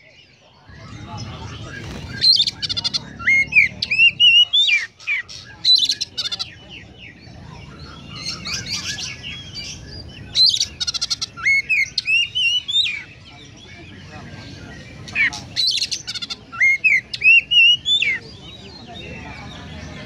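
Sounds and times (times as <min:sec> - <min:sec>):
bird chattering runs: 0:00.7 - 0:18.2.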